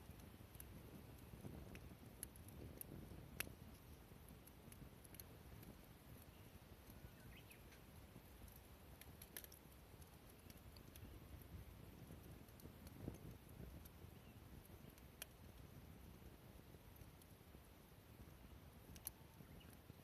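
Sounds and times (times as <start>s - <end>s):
small clicks and ticks: 0.0s - 20.0s.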